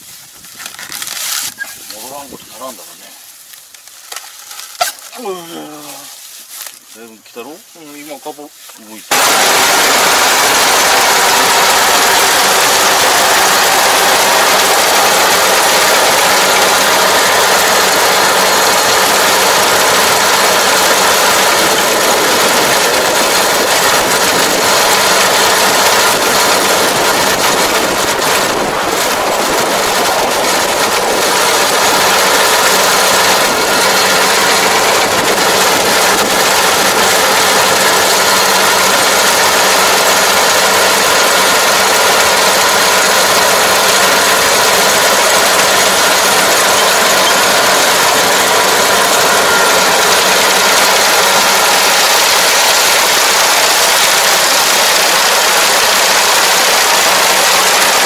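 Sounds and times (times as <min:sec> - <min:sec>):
combine harvester running: 0:00.1 - 0:58.0.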